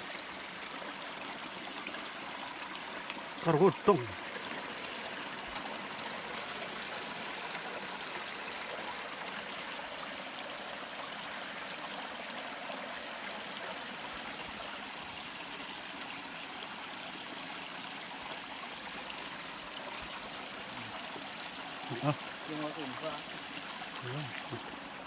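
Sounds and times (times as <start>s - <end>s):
forest stream running: 0.0s - 25.0s.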